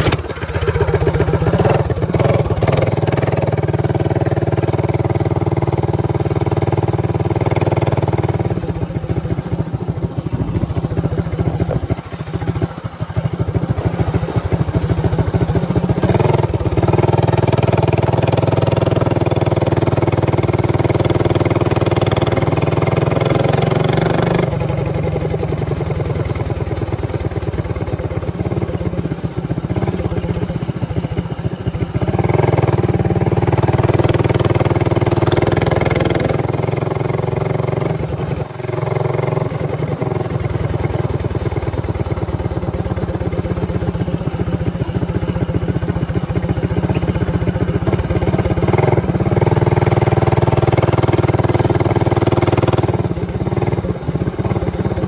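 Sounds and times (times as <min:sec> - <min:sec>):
minibike engine running hard: 0:00.0 - 0:55.0.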